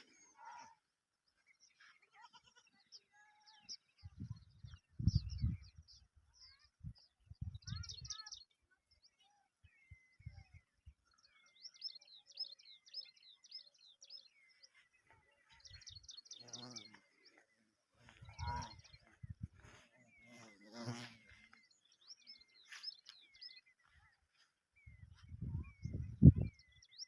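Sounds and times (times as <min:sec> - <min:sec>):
birds chirping and trilling: 0:00.0 - 0:27.0.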